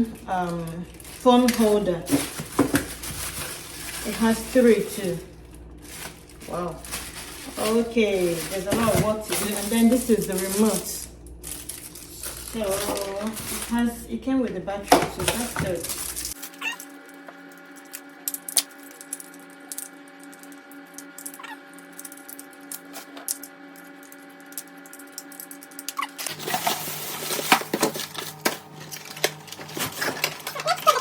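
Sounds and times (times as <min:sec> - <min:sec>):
packaging crinkling and rustling: 0:00.0 - 0:14.0, 0:14.8 - 0:19.9, 0:24.8 - 0:31.0
steady low hum: 0:00.0 - 0:31.0.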